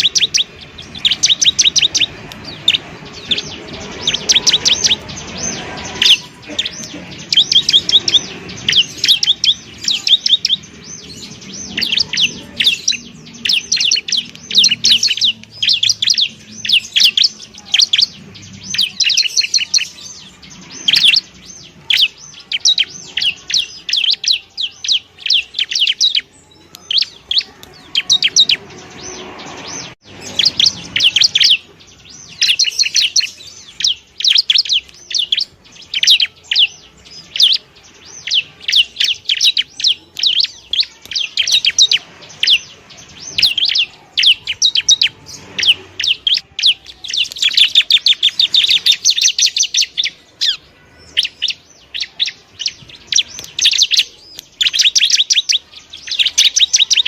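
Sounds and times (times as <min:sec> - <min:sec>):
bird singing rapid high chirps: 0:00.0 - 0:57.0.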